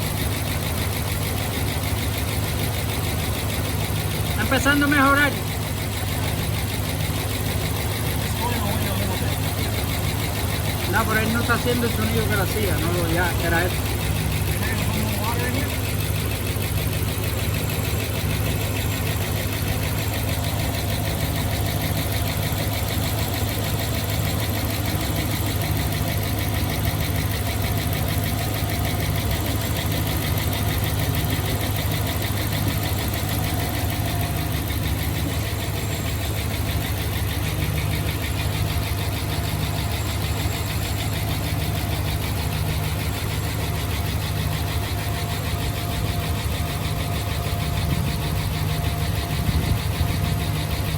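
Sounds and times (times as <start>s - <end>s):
engine idling: 0.0s - 50.9s.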